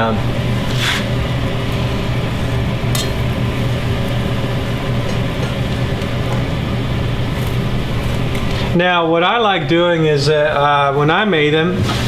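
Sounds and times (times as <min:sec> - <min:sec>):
exhaust fan whirring: 0:00.0 - 0:12.0.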